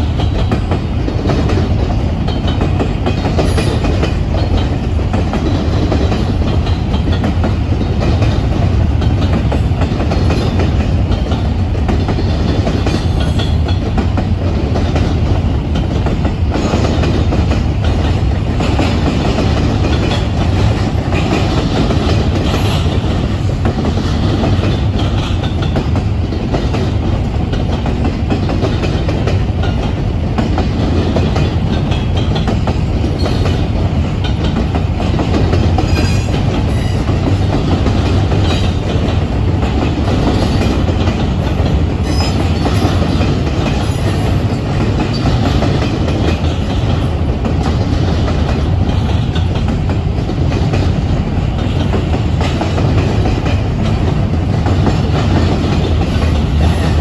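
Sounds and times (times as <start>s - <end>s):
steel train wheels rumbling on rails: 0.0s - 57.0s.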